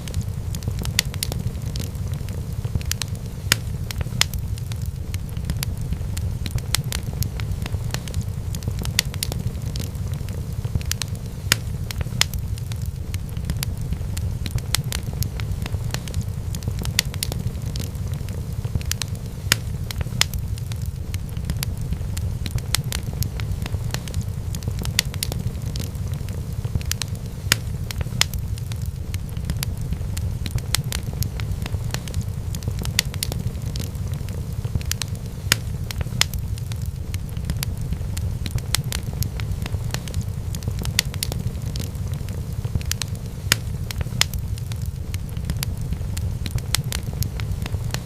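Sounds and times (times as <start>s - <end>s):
low rumble of fire: 0.0s - 48.0s
sharp pops of fire: 0.0s - 48.0s
wood fire crackling: 0.0s - 48.0s.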